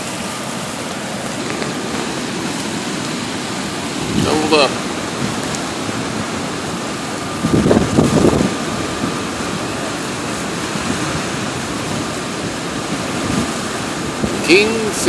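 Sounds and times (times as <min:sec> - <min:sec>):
river rapids rushing: 0:00.0 - 0:15.0
water rumble: 0:00.0 - 0:15.0.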